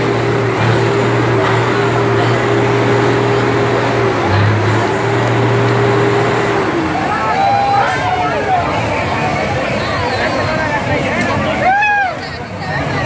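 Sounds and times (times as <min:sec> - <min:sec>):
diesel truck engine revving: 0:00.0 - 0:11.6.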